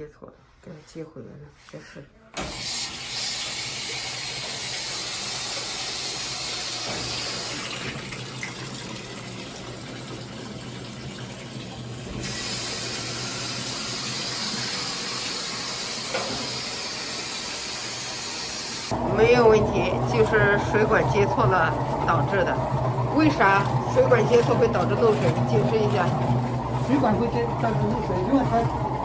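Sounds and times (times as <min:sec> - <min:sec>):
water rushing into washing machine: 0:02.4 - 0:29.0.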